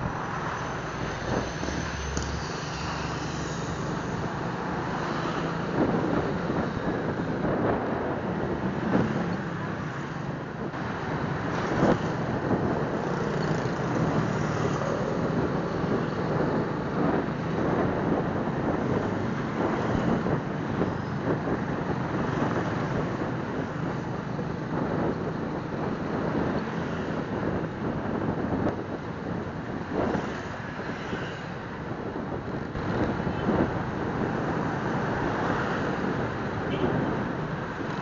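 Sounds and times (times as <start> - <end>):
wind rushing over microphone: 0.0 - 38.0.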